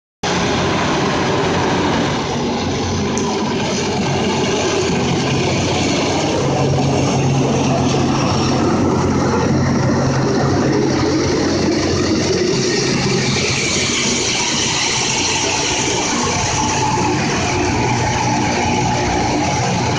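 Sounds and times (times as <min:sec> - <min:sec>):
diesel engines humming: 0:00.2 - 0:19.9
grinding stones hissing on rail: 0:00.3 - 0:19.9.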